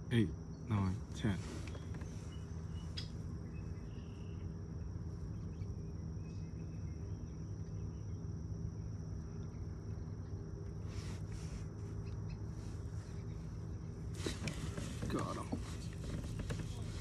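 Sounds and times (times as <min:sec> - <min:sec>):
crickets trilling: 0:00.0 - 0:17.0
low steady hum: 0:00.0 - 0:17.0.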